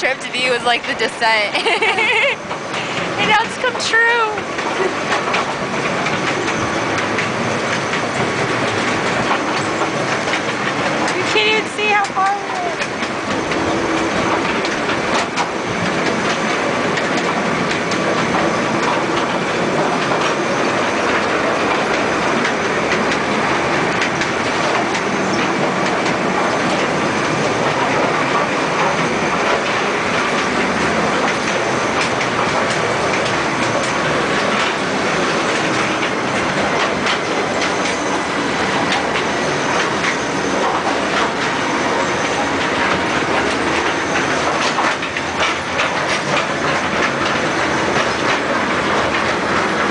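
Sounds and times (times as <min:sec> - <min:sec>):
train rumbling and rattling: 0:00.0 - 0:49.9
wheels clicking over track: 0:00.0 - 0:49.9.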